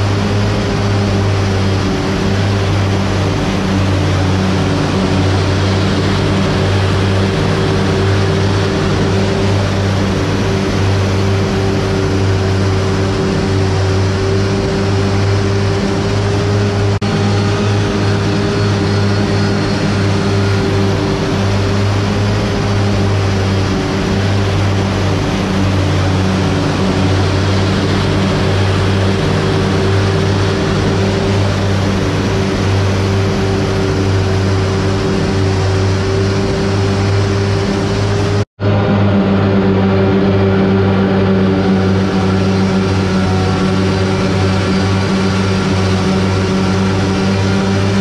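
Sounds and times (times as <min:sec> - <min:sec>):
mechanical drone: 0:00.0 - 0:48.0.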